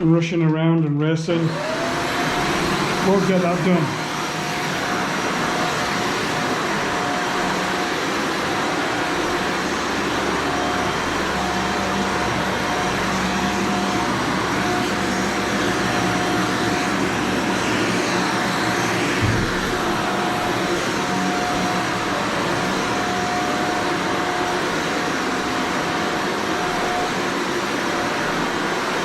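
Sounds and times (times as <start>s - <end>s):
vacuum cleaner on carpet: 1.1s - 29.0s.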